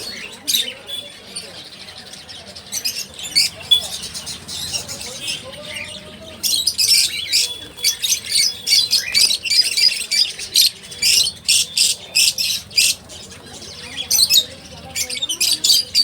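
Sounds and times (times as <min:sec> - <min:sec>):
small birds calling: 0:00.0 - 0:16.0.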